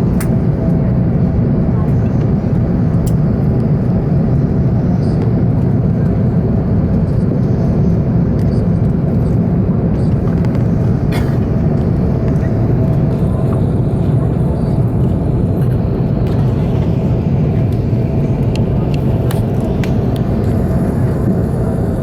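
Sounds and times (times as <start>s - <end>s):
aircraft cabin roar: 0.0s - 22.0s.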